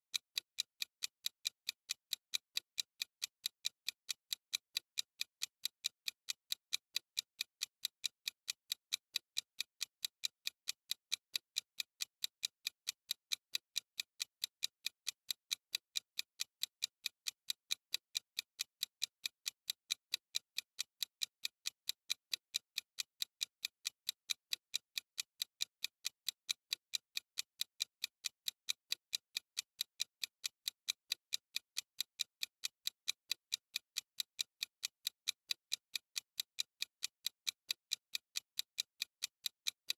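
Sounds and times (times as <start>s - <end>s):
clock ticking: 0.1s - 39.9s.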